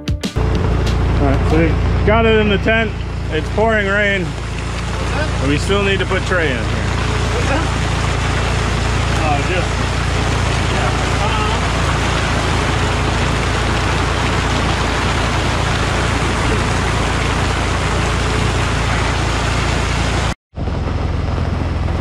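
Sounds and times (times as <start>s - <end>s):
engine humming: 0.3s - 22.0s
heavy rain hissing: 0.6s - 22.0s.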